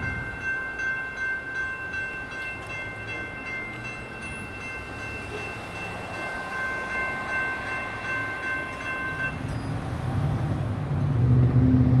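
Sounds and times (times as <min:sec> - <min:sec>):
electronic crossing bell ringing: 0:00.0 - 0:09.8.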